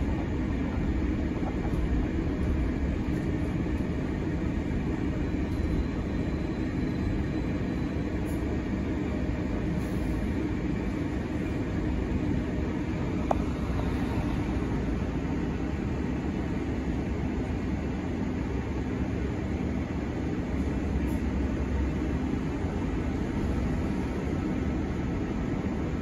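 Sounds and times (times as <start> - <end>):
bus engine rumble: 0.0 - 26.0.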